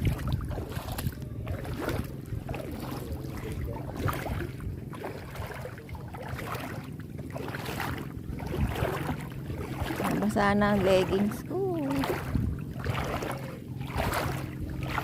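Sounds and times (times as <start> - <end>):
feet splashing in shallow water: 0.0 - 15.0
steady low rumble: 0.0 - 15.0.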